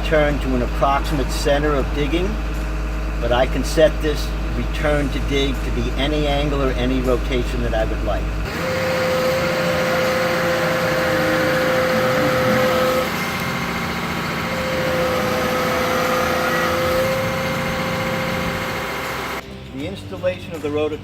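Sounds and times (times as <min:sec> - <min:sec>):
excavator engine running: 0:00.0 - 0:19.4
steady high whine: 0:00.0 - 0:19.5.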